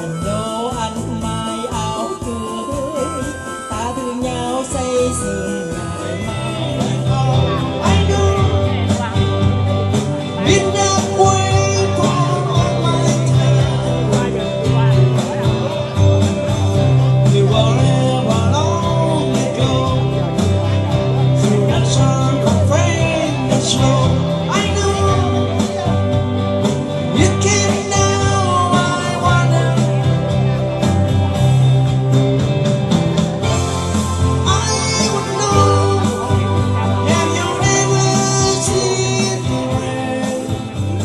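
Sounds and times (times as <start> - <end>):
country rock band with singing: 0.0 - 41.0.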